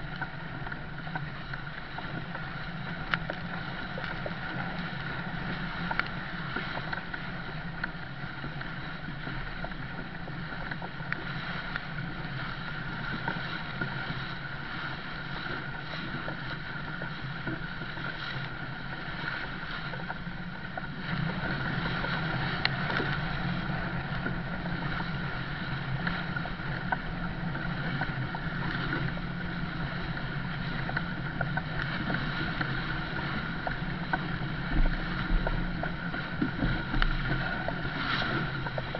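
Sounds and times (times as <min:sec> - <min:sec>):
water rushing around bow: 0:00.0 - 0:38.9.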